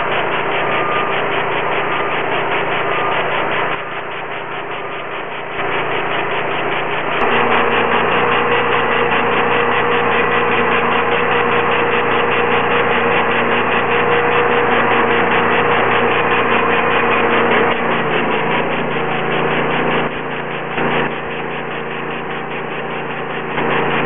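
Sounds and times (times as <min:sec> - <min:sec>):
pressure washer running: 0:00.0 - 0:24.0
surface cleaner spraying concrete: 0:00.0 - 0:24.0.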